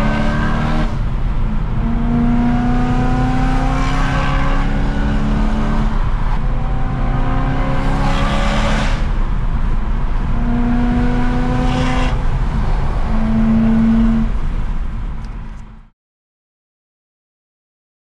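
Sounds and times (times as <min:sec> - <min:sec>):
car engine running hard: 0:00.0 - 0:15.7.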